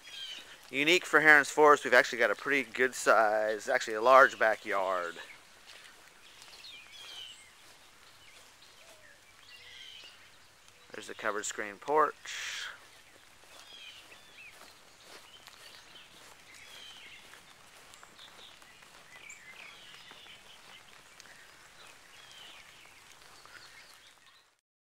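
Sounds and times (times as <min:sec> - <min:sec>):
bird chirps: 0:00.0 - 0:00.6, 0:01.7 - 0:24.6
outdoor background noise: 0:00.0 - 0:24.6.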